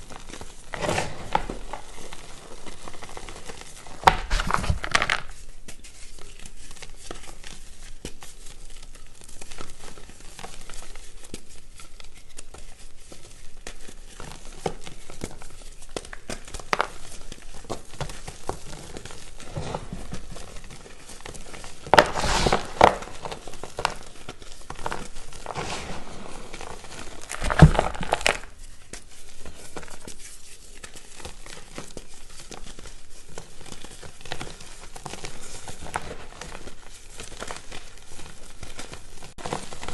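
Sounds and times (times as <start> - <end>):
chalk crushing crackle and crunches: 0.0 - 39.9.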